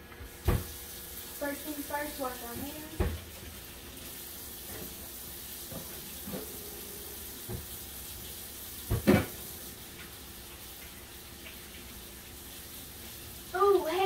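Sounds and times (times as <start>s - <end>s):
tap water running: 0.0s - 14.0s.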